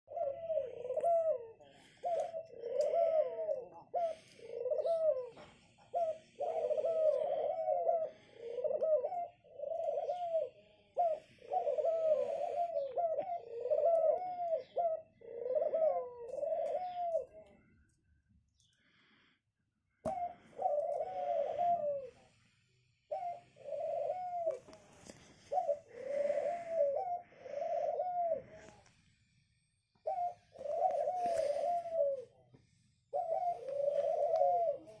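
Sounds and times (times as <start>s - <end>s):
doves cooing: 0.1s - 17.9s, 20.0s - 35.0s.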